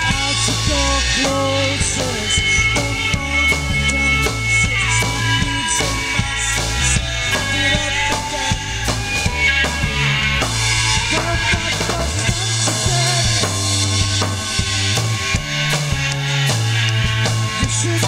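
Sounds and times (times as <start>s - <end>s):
electric bass low notes: 0.0s - 18.0s
electric guitars: 0.0s - 18.0s
keyboards: 0.0s - 18.0s.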